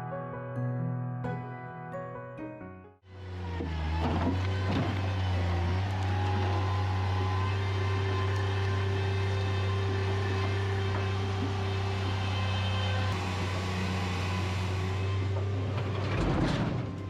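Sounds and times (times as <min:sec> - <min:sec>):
loader engine running under load: 0:03.1 - 0:17.0.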